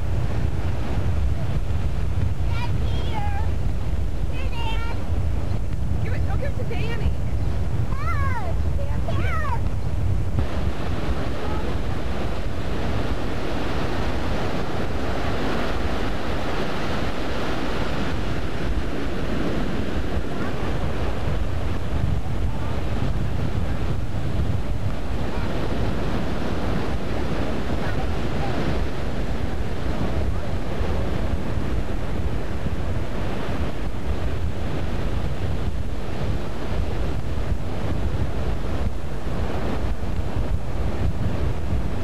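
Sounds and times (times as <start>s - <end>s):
ocean surf breaking: 0.0s - 42.0s
wind buffeting microphone: 0.0s - 42.0s.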